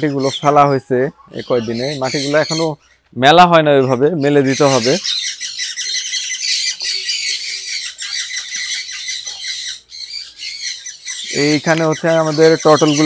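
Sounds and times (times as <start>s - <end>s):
small birds chattering and squawking: 0.0s - 13.0s.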